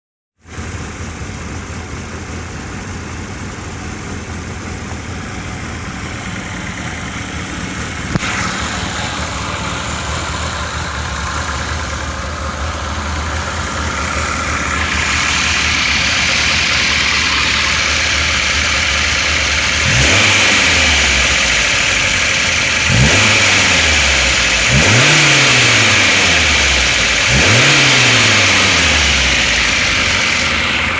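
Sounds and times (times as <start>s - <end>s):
car engine idling and revving: 0.4s - 30.9s.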